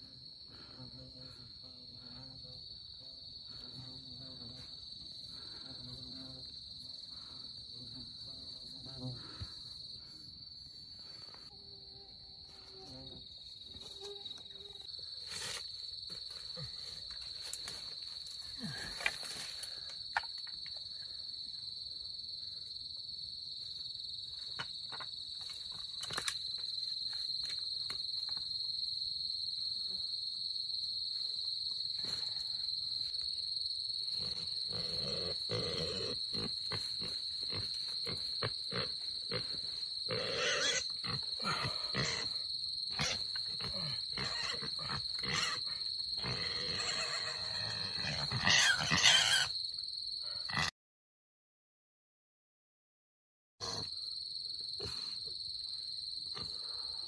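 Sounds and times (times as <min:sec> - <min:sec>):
high-pitched insect drone: 0:00.0 - 0:22.9, 0:23.5 - 0:50.7.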